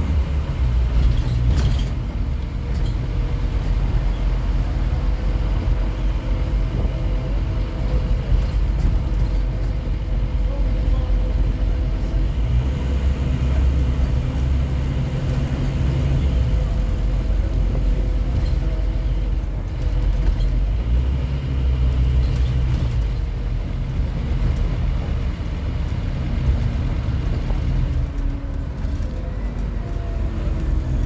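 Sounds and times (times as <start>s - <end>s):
bus engine rumbling: 0.0s - 31.0s.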